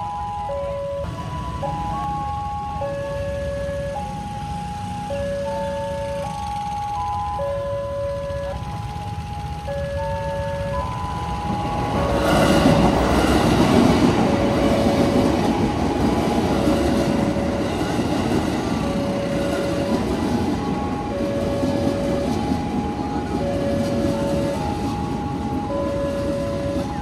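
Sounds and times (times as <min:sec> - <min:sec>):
crossing warning chime: 0:00.0 - 0:27.0
train wheels rumbling on rails: 0:00.0 - 0:27.0.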